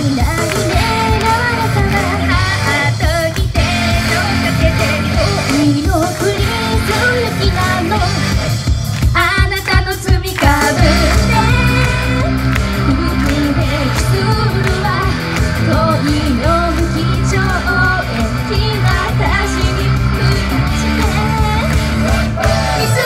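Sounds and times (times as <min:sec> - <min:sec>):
woman singing into a microphone: 0:00.0 - 0:08.4, 0:09.1 - 0:21.8
pop backing track over pa: 0:00.0 - 0:23.0.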